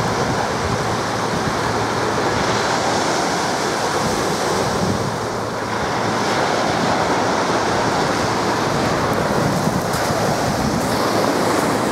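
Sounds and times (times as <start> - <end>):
surf washing onto beach: 0.0 - 11.9
wind buffeting microphone: 0.0 - 11.9.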